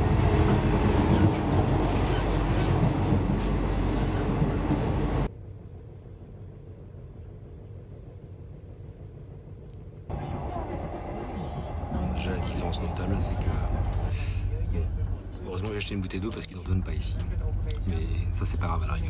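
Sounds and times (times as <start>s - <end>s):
train carriage rumbling: 0.0s - 19.0s.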